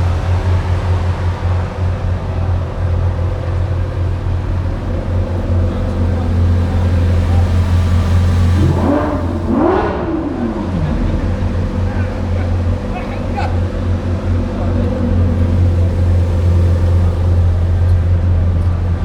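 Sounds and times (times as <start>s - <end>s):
car engines idling: 0.0s - 19.0s
engine revving: 0.0s - 19.0s.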